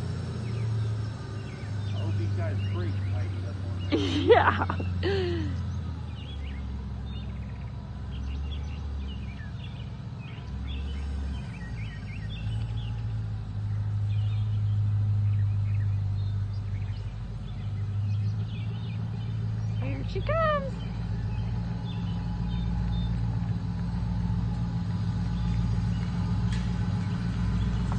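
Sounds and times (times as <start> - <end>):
birds chirping: 0.0 - 27.9
truck engine rumbling: 0.0 - 27.9.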